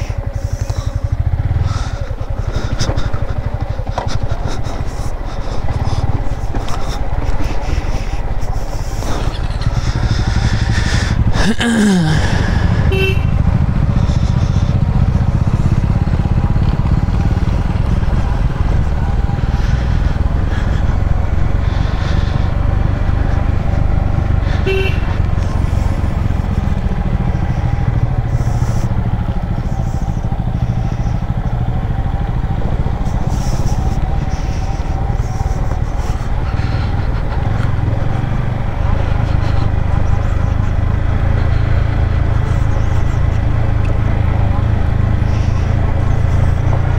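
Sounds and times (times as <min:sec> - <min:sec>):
motorcycle engine at low speed: 0:00.0 - 0:46.9.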